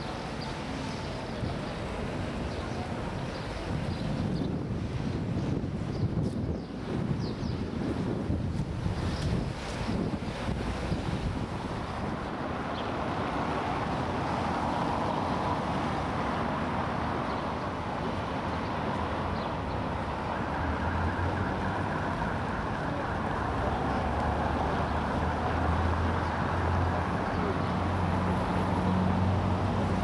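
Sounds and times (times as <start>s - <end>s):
road traffic hum: 0.0s - 30.0s.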